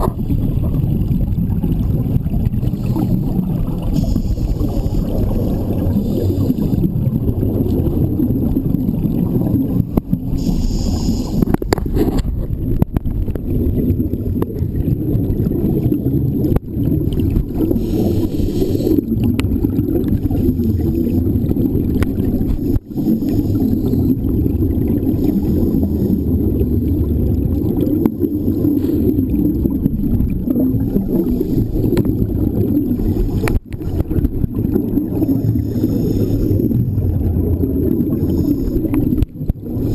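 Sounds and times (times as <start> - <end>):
muffled underwater rumble: 0.0 - 39.9
bubbling hiss of divers exhaling: 1.8 - 12.5, 14.2 - 39.9.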